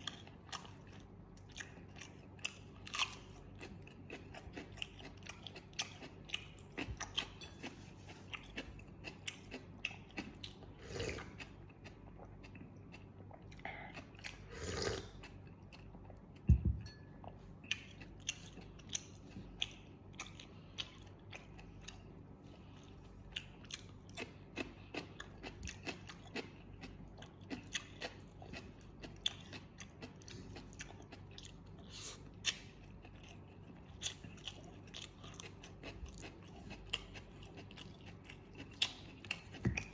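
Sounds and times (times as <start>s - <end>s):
chewing with crisp crunches: 0.0s - 39.9s.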